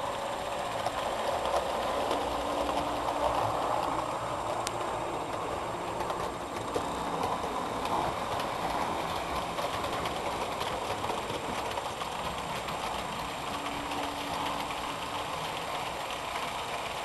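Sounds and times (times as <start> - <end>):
model train rolling: 0.0 - 17.0.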